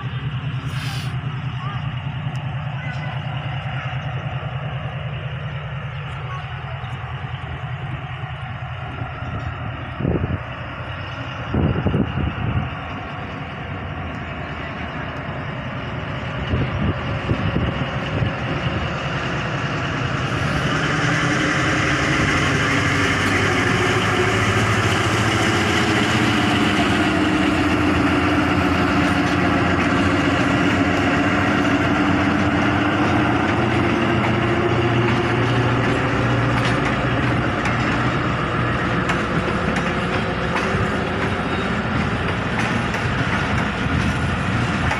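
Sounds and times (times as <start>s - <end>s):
locomotive engine humming: 0.0s - 44.9s.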